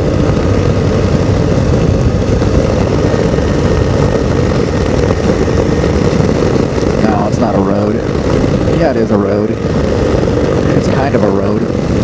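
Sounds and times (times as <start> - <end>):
ultralight aircraft engine and propeller: 0.0 - 12.0
wind rushing over microphone: 0.0 - 12.0.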